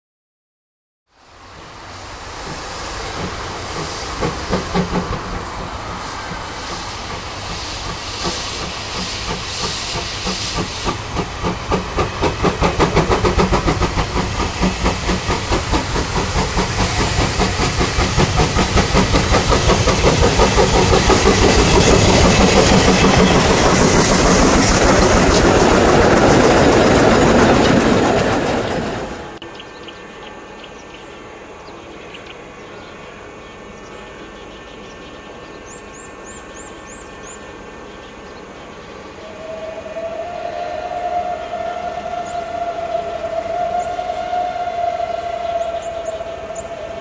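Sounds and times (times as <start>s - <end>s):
hissing steam: 1.2s - 29.4s, 33.1s - 47.0s
steam locomotive exhaust chuffs: 1.4s - 29.4s, 34.2s - 47.0s.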